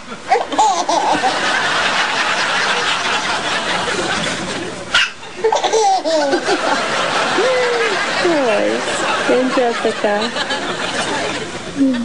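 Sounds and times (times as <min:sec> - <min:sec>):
laughter: 0:00.1 - 0:12.0.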